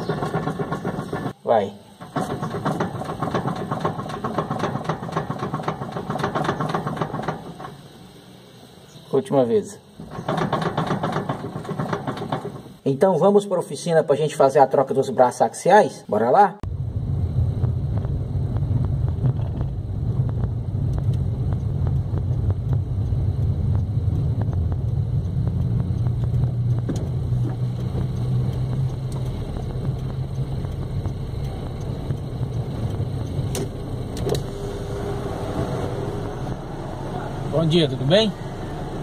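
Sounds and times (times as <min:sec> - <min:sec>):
car engine and road noise: 0:00.0 - 0:09.1, 0:09.9 - 0:12.8, 0:16.6 - 0:39.0.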